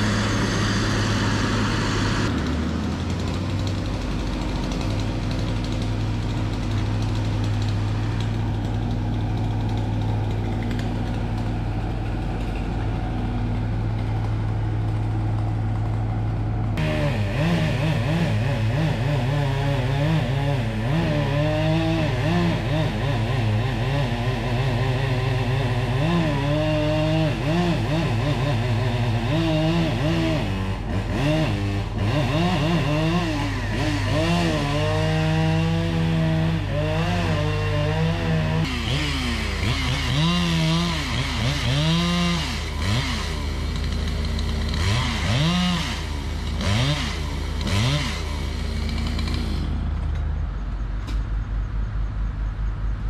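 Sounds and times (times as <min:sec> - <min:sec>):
chainsaw cutting a tree: 0:00.0 - 0:50.0
logging machine idling: 0:00.0 - 0:50.4.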